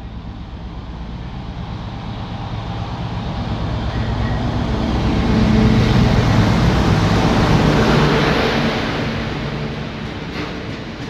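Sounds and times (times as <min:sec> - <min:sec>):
diesel locomotive engine passing: 0:00.0 - 0:11.0.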